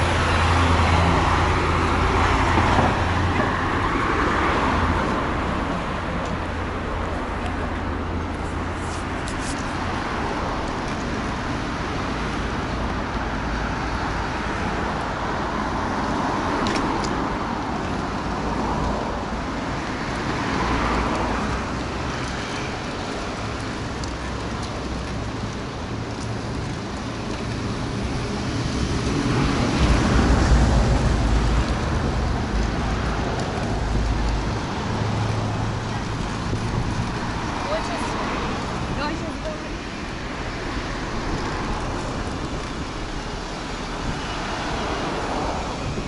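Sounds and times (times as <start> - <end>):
cars passing: 0.0 - 46.0
traffic hiss: 0.0 - 46.0
wind rumble on microphone: 0.0 - 46.0.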